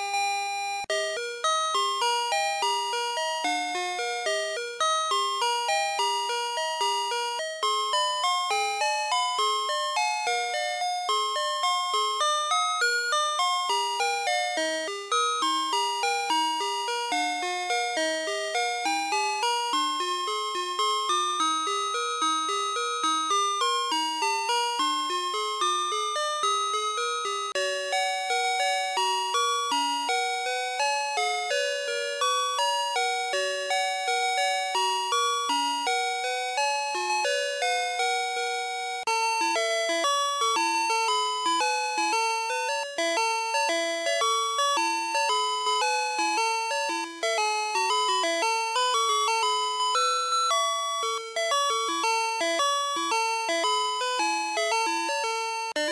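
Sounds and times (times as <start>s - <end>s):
electronic toy chime tune: 0.0s - 55.9s.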